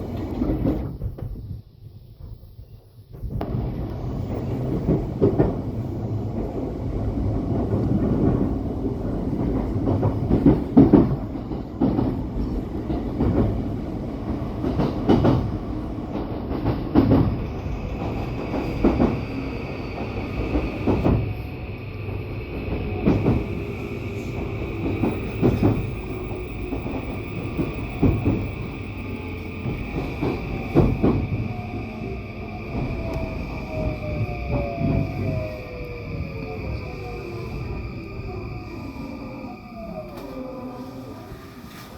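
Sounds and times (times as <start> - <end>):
train low rumble: 0.0 - 41.9.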